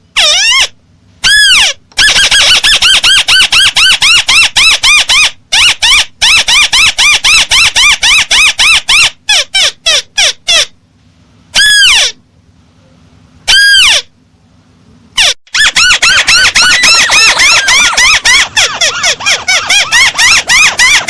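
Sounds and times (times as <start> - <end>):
bird call playback: 0.1 - 10.8, 11.5 - 12.2, 13.5 - 14.2, 15.2 - 21.0.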